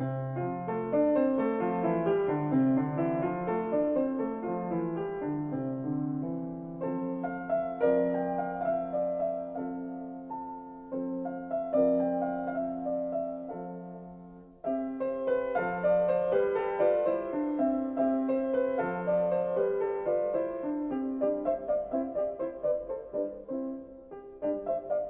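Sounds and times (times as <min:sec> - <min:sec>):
solo piano music: 0:00.0 - 0:25.0.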